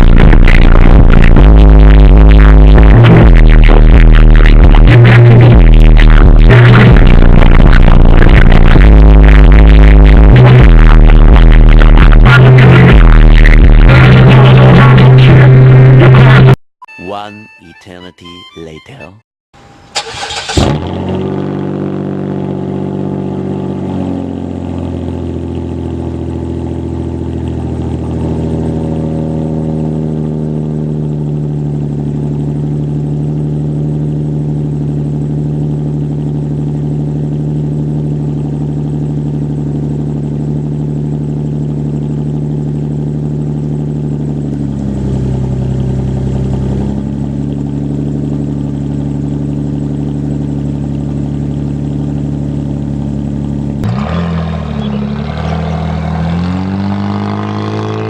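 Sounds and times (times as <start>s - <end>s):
car engine idling: 0.0s - 16.5s, 19.6s - 58.0s.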